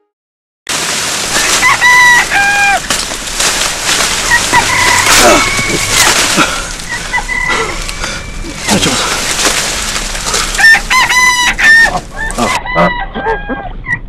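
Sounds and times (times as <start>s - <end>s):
rustling through brush: 0.7s - 12.6s
chickens clucking: 1.1s - 14.0s
rooster crowing: 1.2s - 13.8s.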